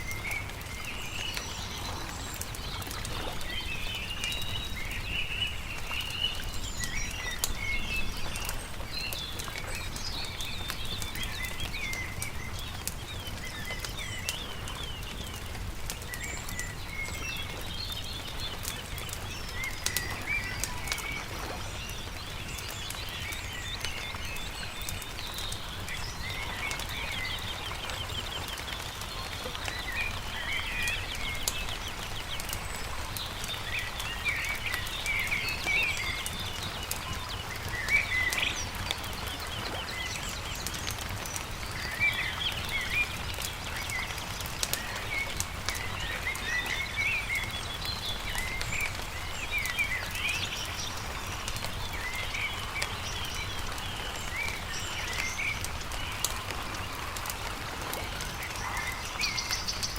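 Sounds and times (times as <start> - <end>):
campfire crackling and popping: 0.0 - 59.9
songbirds singing: 0.0 - 59.9.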